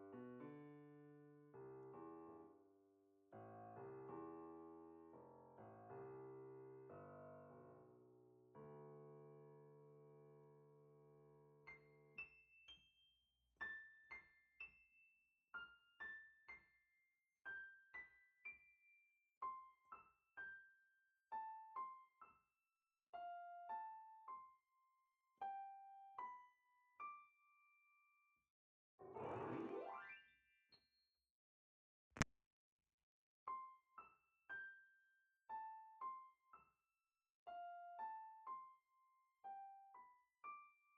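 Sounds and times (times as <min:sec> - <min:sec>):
quiet piano music: 0:00.0 - 0:12.8, 0:13.6 - 0:22.5, 0:23.1 - 0:28.0, 0:33.5 - 0:36.8, 0:37.5 - 0:40.9.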